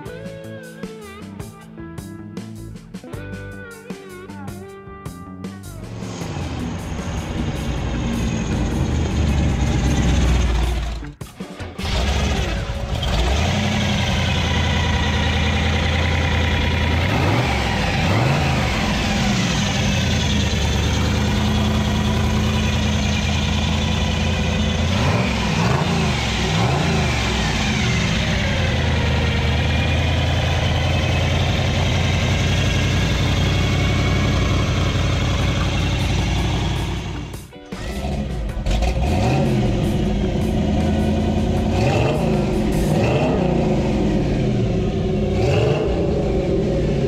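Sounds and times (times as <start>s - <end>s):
engine revving: 5.8s - 47.0s
engine idling with deep rumble: 5.9s - 11.2s, 11.8s - 47.0s.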